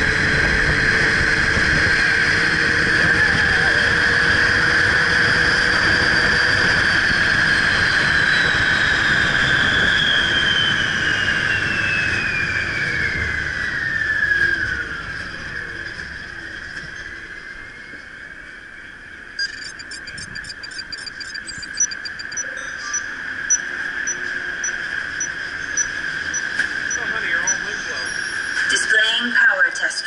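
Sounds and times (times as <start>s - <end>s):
drive motor whine: 0.0s - 28.9s
wind and wheel rush: 0.0s - 29.1s.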